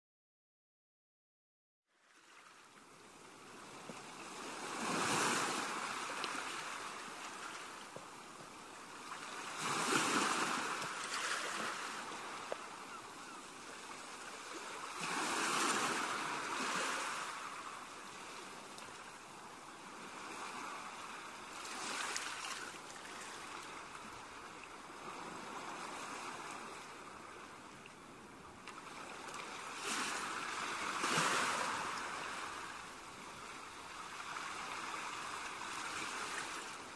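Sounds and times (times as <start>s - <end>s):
ocean waves washing in: 2.4s - 27.6s, 29.0s - 36.9s.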